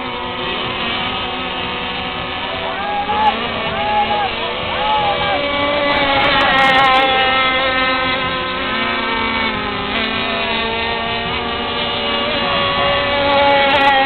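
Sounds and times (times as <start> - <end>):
model boat engines whining: 0.0 - 14.0.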